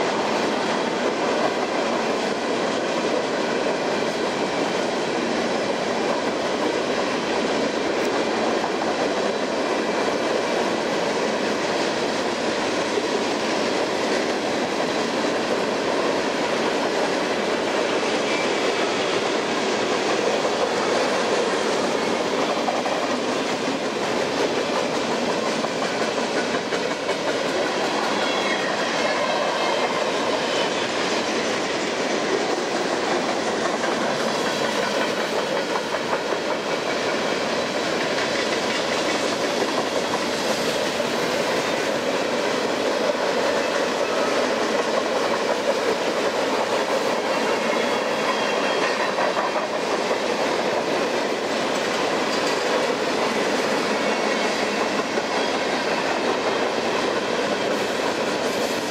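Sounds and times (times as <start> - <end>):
freight train wheels on rail: 0.0 - 58.9.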